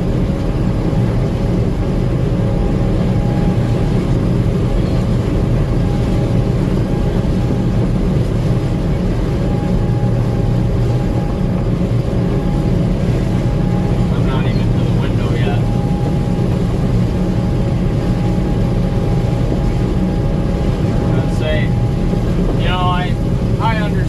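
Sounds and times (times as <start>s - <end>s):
combine engine drone: 0.0s - 24.0s
machinery whine: 0.0s - 24.0s.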